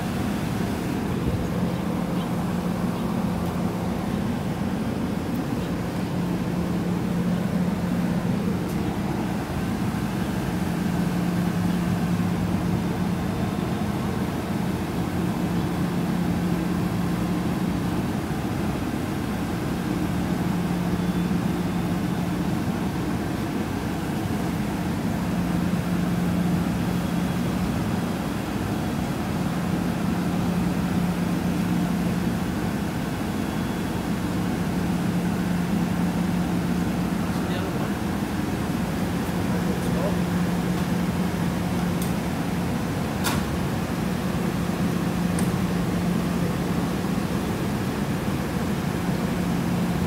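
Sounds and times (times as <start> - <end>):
train idling hum: 0.0 - 50.0.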